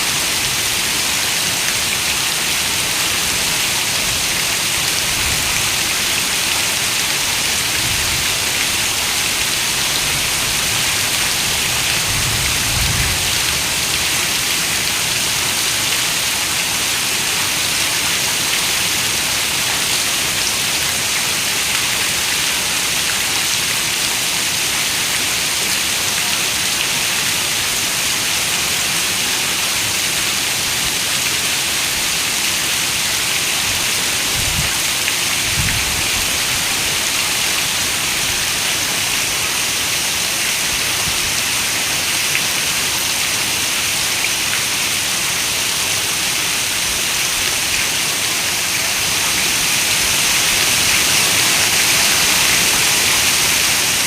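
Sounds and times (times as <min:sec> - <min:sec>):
heavy rain on a window: 0:00.1 - 0:54.0.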